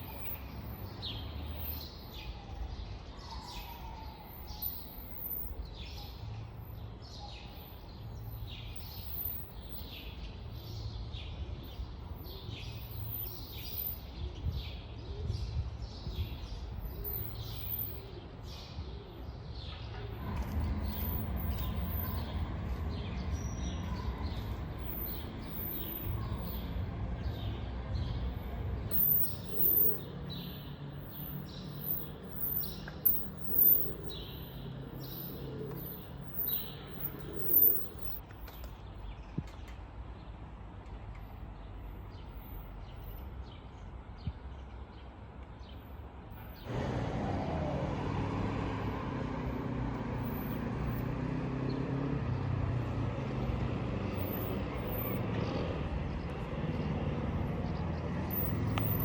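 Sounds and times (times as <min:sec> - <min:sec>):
small birds chirping: 0:00.0 - 0:46.7, 0:49.2 - 0:59.0.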